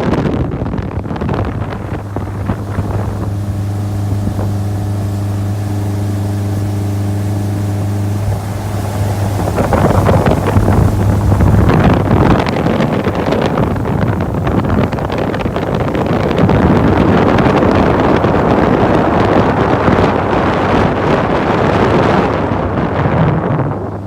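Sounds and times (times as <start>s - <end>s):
boat engine running: 0.0s - 24.0s
wind buffeting microphone: 0.0s - 24.0s.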